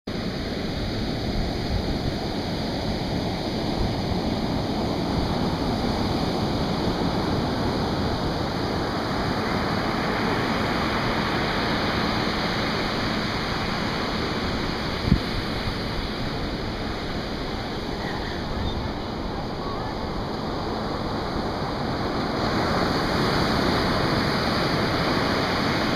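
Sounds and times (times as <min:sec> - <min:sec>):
surf washing up beach: 0:00.1 - 0:25.9.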